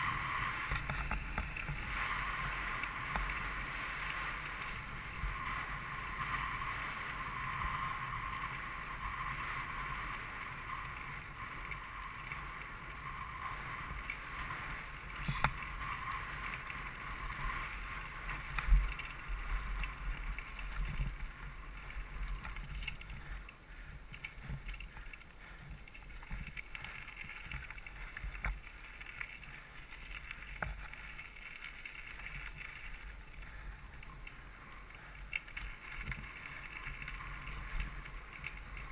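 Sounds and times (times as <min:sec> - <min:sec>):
bike tyre noise: 0:00.0 - 0:38.9.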